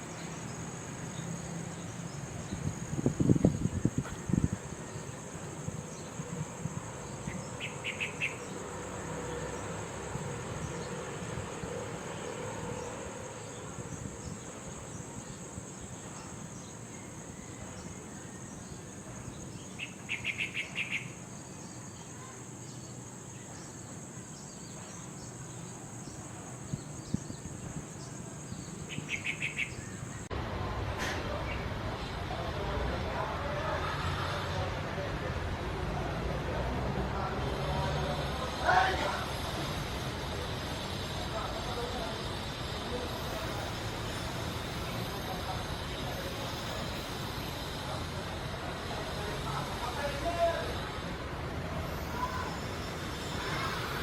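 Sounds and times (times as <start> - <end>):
rapid insect pulses: 0.0 - 30.3, 35.4 - 54.0
insects chirring: 0.0 - 30.4, 31.4 - 54.0.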